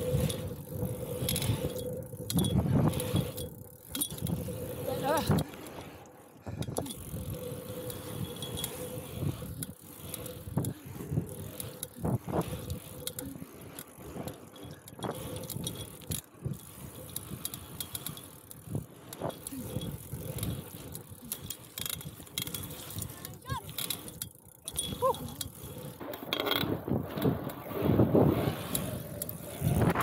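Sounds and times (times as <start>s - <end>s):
bike clicking and rattling: 0.0s - 30.0s
bike tyres rolling on asphalt: 0.0s - 30.0s.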